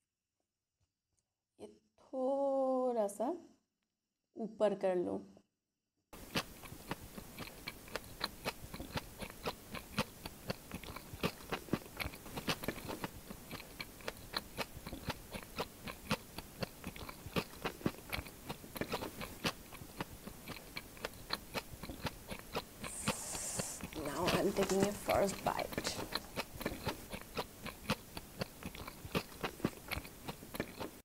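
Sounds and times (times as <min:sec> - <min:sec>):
crunchy chewing: 0:06.2 - 0:31.0.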